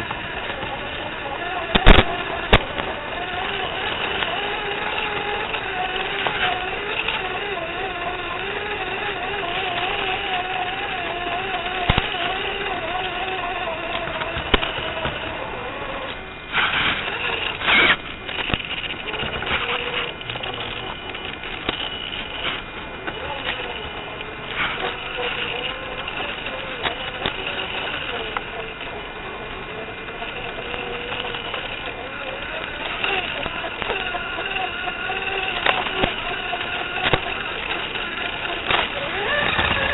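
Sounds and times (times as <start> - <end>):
electric motor and gearbox whining: 0.0 - 39.9
scraping bursts: 0.0 - 39.9.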